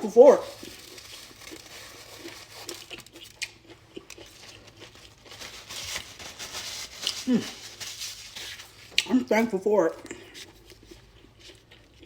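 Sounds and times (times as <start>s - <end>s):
fried chicken crunching: 0.0s - 9.2s, 10.0s - 12.0s.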